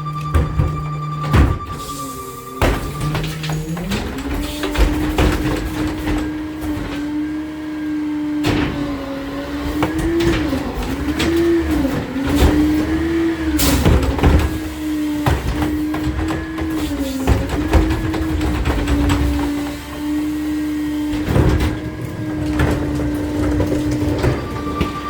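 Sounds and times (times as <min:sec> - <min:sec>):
garbage truck engine droning: 0:00.0 - 0:25.0
metal clanks and bangs: 0:00.0 - 0:25.0.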